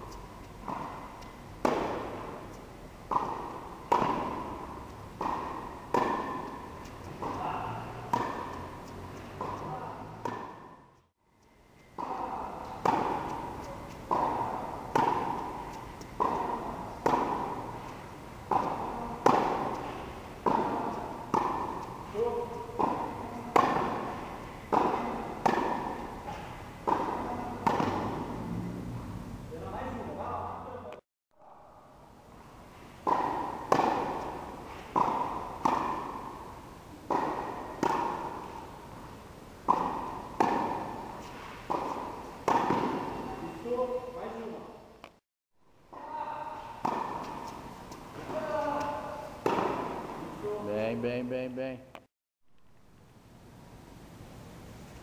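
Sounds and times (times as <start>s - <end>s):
tennis balls bouncing on hard court: 0.0s - 28.7s, 33.0s - 44.4s, 45.9s - 50.5s
tennis balls struck by rackets: 0.0s - 28.7s, 33.0s - 44.4s, 45.9s - 50.6s.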